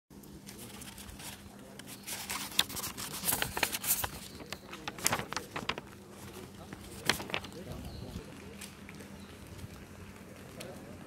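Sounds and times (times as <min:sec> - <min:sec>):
paper rustling and crackling: 0:00.2 - 0:10.9.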